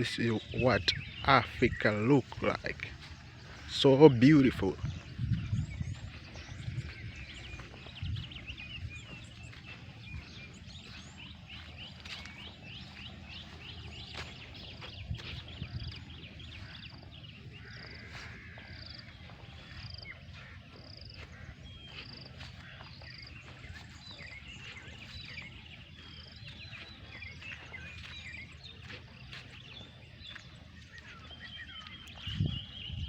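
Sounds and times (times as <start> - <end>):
birds chirping and calling: 0.0 - 33.0.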